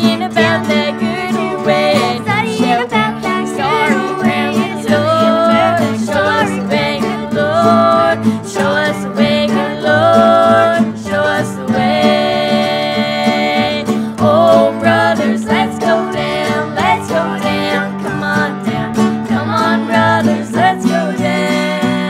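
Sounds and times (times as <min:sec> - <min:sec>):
girls singing in harmony: 0:00.0 - 0:22.0
mandolin: 0:00.0 - 0:22.0
plucked upright bass: 0:00.0 - 0:22.0
strummed acoustic guitar: 0:00.0 - 0:22.0.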